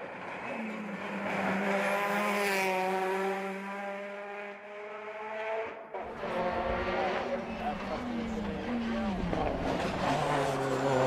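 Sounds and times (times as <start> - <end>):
race car engine passing by: 0.0 - 11.0.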